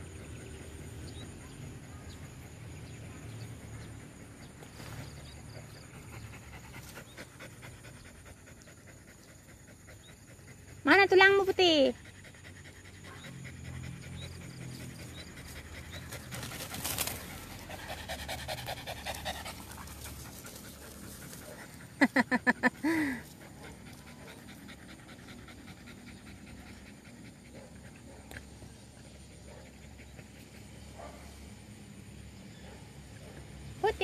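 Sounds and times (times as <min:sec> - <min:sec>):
dog panting: 0:00.1 - 0:31.2.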